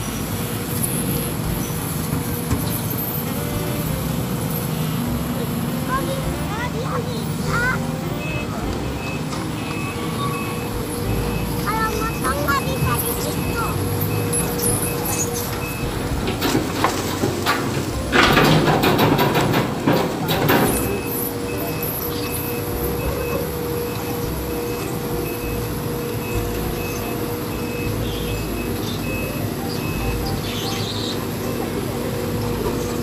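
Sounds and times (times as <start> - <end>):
clattering and rushing noise: 0.0 - 30.4
diesel engine running: 0.0 - 33.0
travel alarm beeping: 2.8 - 33.0.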